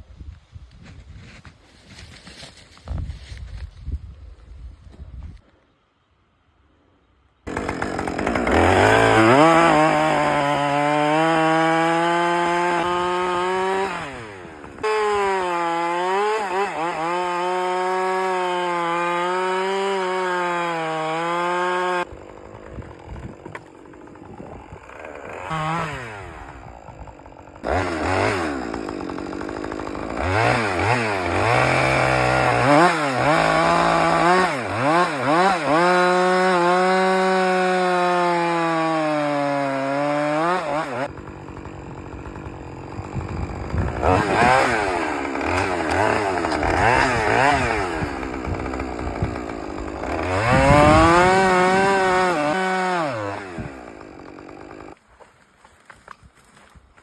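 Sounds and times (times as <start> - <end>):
chainsaw cutting into tree trunk: 7.5 - 57.0.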